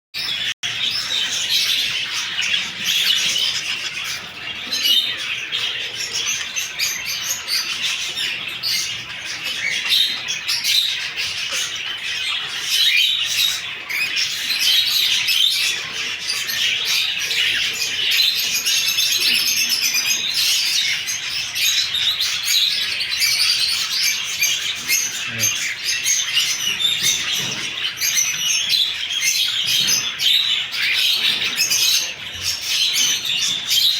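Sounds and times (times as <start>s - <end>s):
caged birds chirping and singing: 0.2s - 33.9s.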